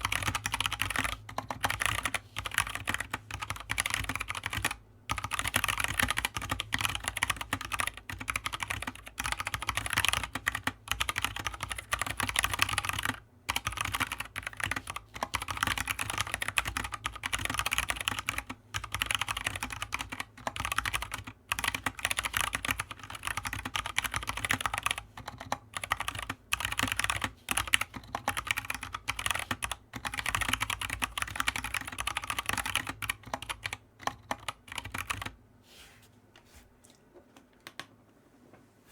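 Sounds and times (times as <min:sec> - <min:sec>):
mechanical keyboard typing: 0:00.0 - 0:35.4.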